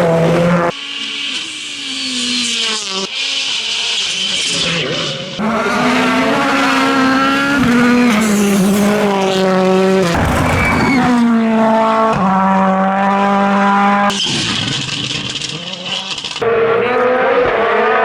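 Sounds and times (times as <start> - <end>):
rally car engine at high revs: 0.0 - 18.0.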